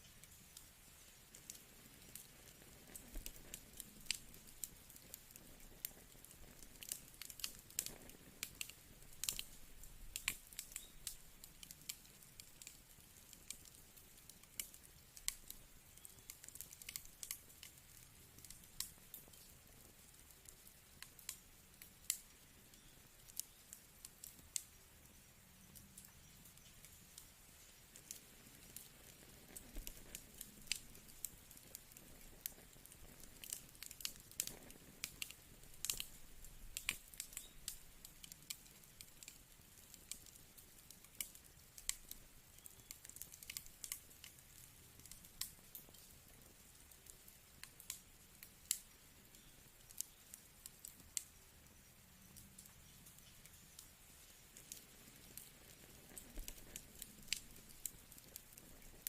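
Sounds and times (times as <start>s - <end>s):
faint steady hiss: 0.0s - 59.0s
fire pops and snaps: 0.0s - 59.0s.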